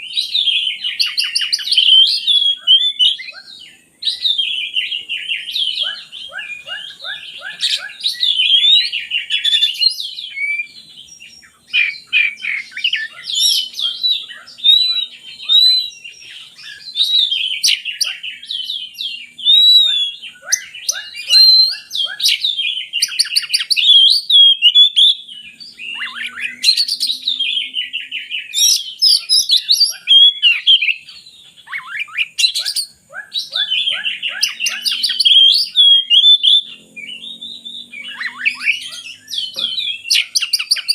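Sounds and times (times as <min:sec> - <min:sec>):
bird singing varied song: 0:00.0 - 0:40.9.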